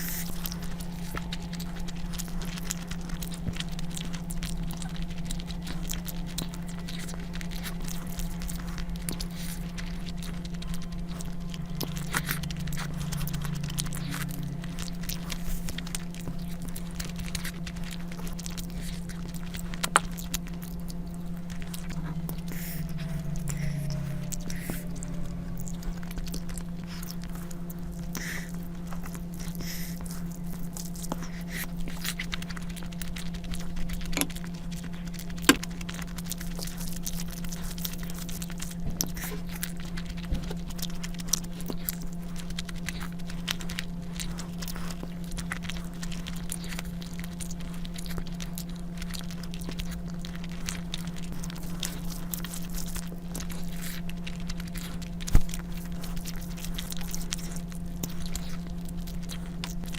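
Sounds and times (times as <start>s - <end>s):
low hum: 0.0s - 59.9s
wet chewing and smacking: 0.0s - 59.9s.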